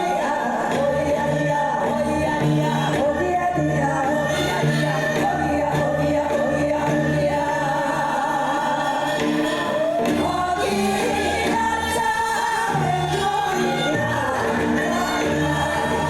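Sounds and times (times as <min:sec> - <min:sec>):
voices singing: 0:00.0 - 0:16.0.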